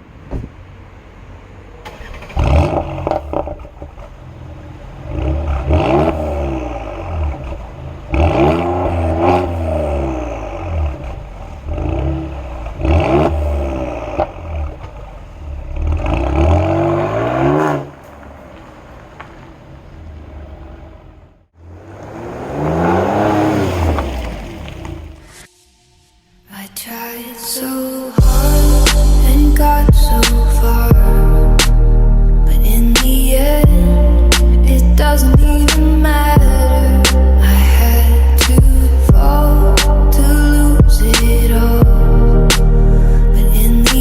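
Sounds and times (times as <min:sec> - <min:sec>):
car engine revving: 0:00.0 - 0:26.7, 0:27.7 - 0:44.0
exhaust cracks: 0:01.7 - 0:27.0, 0:28.1 - 0:44.0.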